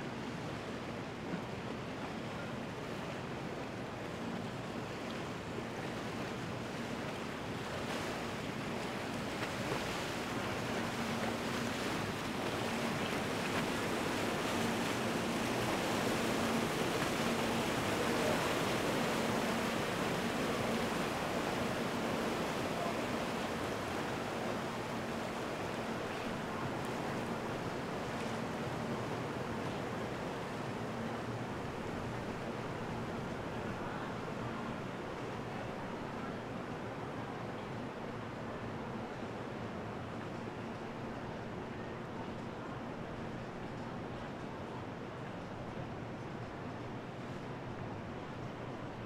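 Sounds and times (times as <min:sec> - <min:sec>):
water rushing and churning: 0:00.1 - 0:49.0.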